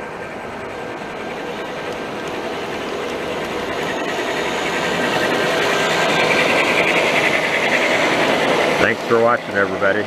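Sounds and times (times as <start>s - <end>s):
model train motor hum: 0.0s - 10.0s
wheels rolling on rails: 0.0s - 10.0s.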